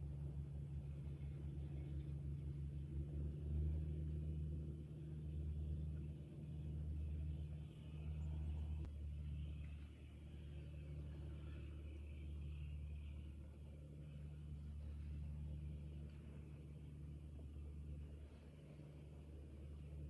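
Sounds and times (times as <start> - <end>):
low engine rumble: 0.0 - 20.0.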